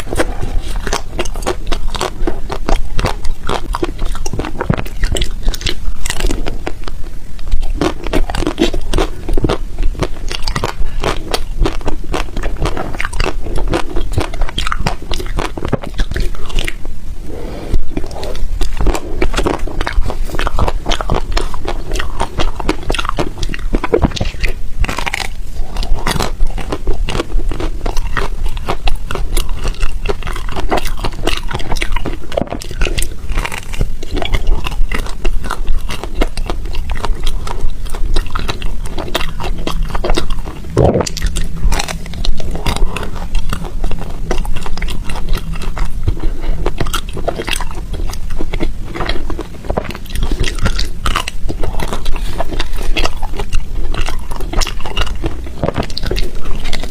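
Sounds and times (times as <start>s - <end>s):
chewing crunchy ice: 0.0s - 17.0s, 17.8s - 56.9s.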